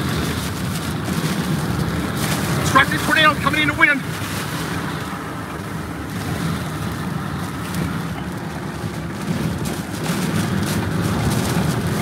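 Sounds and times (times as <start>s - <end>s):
heavy rain on vehicle windshield: 0.0s - 12.0s
road and engine rumble: 0.0s - 12.0s.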